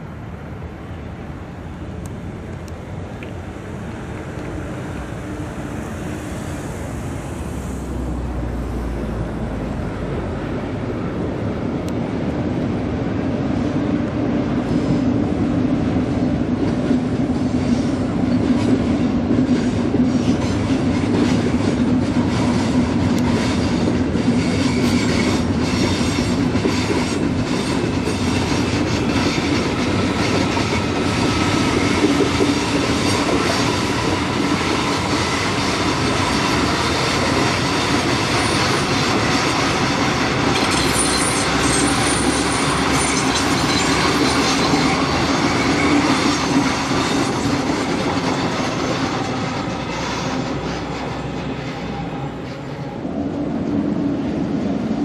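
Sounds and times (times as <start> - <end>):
trains rolling past: 0.0 - 55.0.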